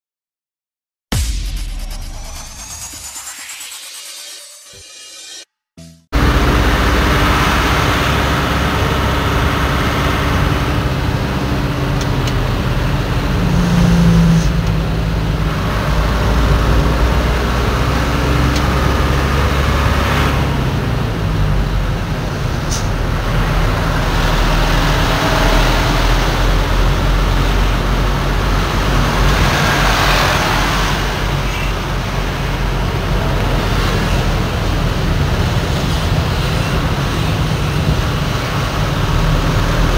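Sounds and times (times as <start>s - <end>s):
heavy trucks driving past: 6.2s - 39.9s.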